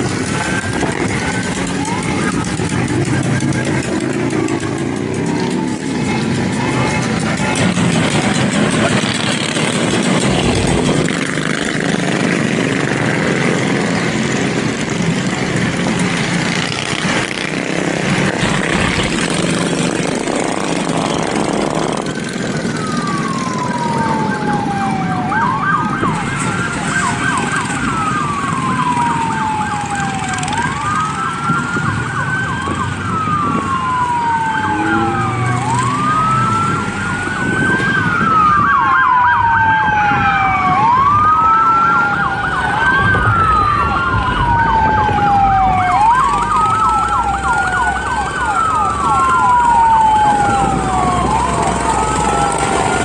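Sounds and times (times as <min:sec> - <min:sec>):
emergency vehicle siren wailing: 0:00.0 - 0:53.0
loud engine noise: 0:00.0 - 0:53.0.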